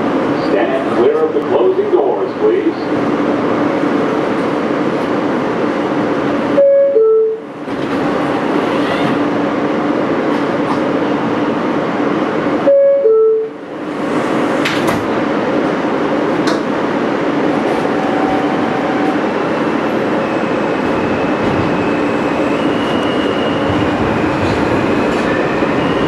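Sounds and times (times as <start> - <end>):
subway car humming: 0.0 - 26.0.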